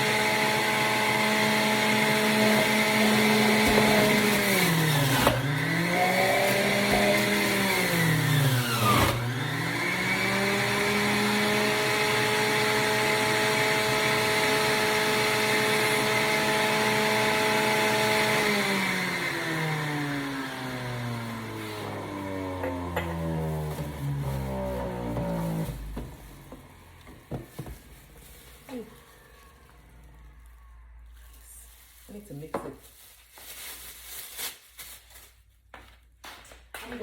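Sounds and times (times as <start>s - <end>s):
electric juicer motor running: 0.0s - 31.2s.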